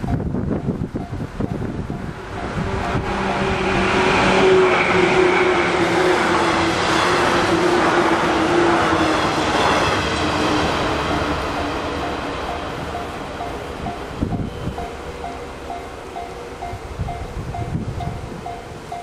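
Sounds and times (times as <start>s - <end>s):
steady train whine: 0.0s - 19.0s
train wheels on rails: 0.0s - 19.0s.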